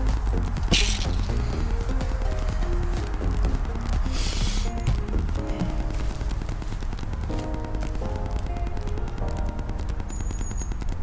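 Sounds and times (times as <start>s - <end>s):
background music with low bass: 0.0s - 11.0s.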